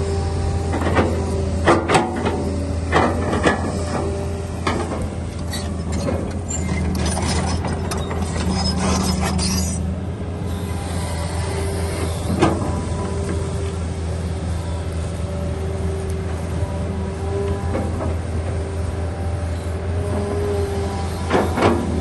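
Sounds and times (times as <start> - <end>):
excavator diesel engine droning: 0.0 - 22.0.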